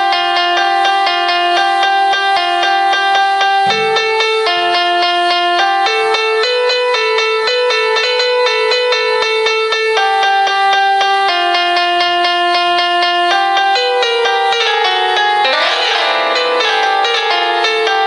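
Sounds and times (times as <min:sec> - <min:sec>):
piano-like ringtone melody: 0:00.0 - 0:18.0.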